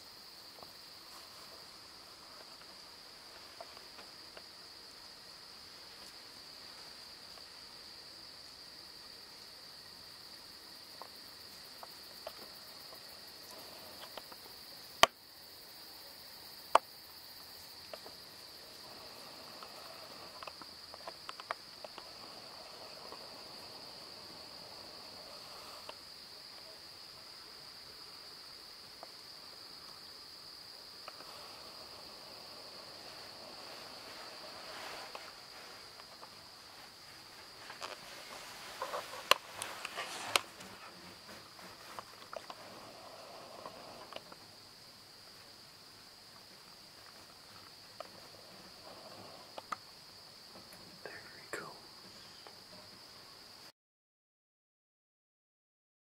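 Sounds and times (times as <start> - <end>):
small ticks and rustles: 0.0 - 53.2
crickets chirping: 0.0 - 53.7.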